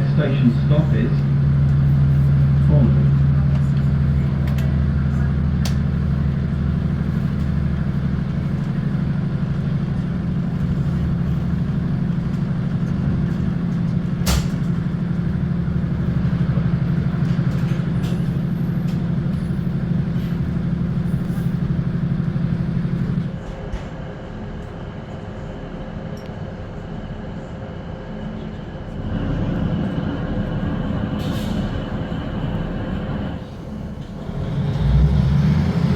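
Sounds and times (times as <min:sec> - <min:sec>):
train engine droning: 0:00.0 - 0:35.9.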